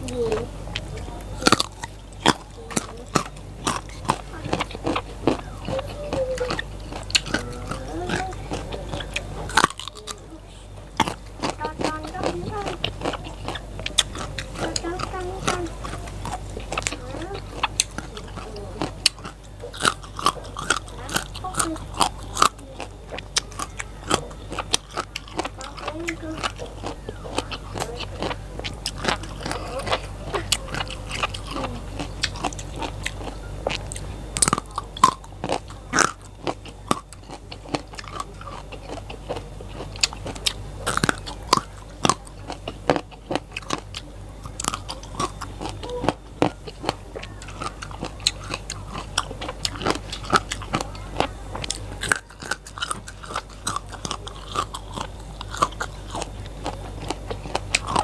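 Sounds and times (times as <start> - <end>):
crunchy chewing of raw vegetables: 0.0 - 58.0.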